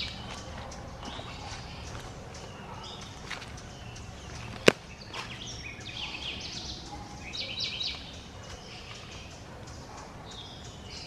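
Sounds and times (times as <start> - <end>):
bird chirps and chattering: 0.0 - 11.0
low background noise: 0.0 - 11.0.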